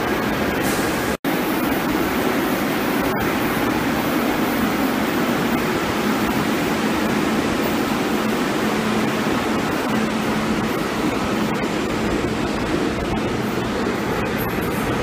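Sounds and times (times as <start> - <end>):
subway train rumbling past: 0.0 - 15.0.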